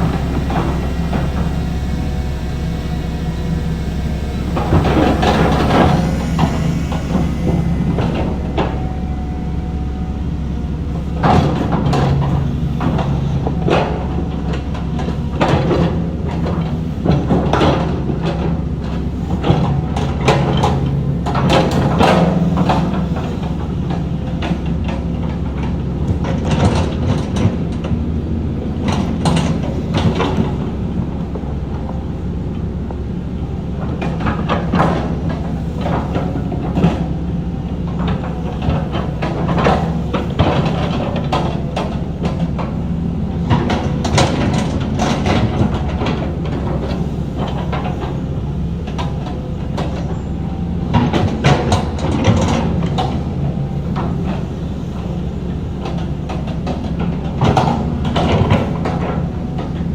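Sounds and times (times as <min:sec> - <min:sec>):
diesel earthmoving machinery running: 0:00.0 - 0:59.9.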